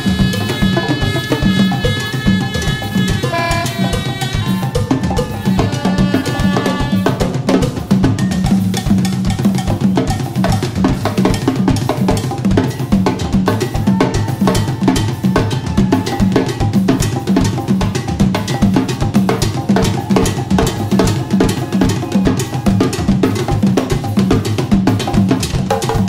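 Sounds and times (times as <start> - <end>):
hand percussion: 0.0 - 26.0
jazz drum kit playing: 0.0 - 26.0.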